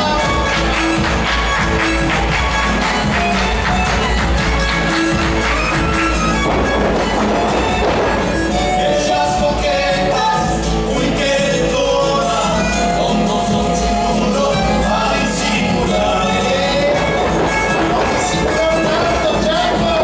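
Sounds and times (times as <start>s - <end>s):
folk music with singing: 0.0s - 20.0s.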